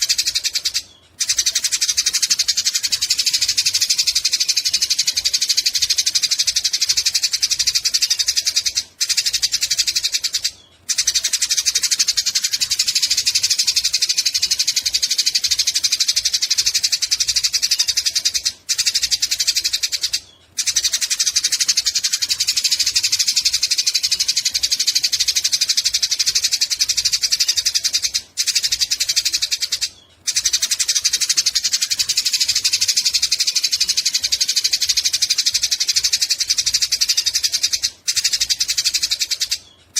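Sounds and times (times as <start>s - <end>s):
sparrows chattering: 0.0s - 39.9s.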